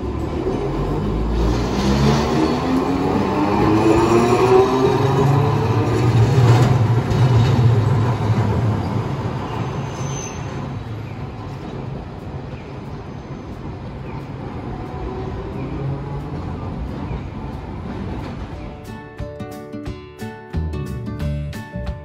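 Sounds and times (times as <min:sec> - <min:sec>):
streetcar motor whine: 0:00.0 - 0:19.0
wheels rumbling on track: 0:00.0 - 0:19.2.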